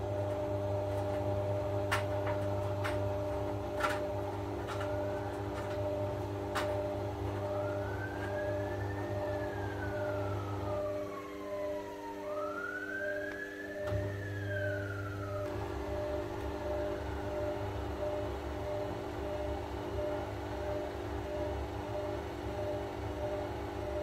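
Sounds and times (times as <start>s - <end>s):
washing machine motor hum: 0.0s - 24.0s
washing machine whine: 0.0s - 24.0s.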